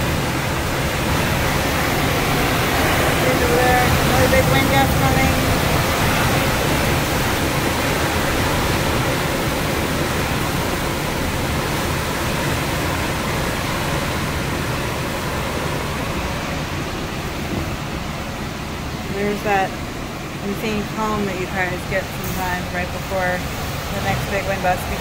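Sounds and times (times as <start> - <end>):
driving rain: 0.0 - 25.0
hurricane wind: 0.0 - 25.0.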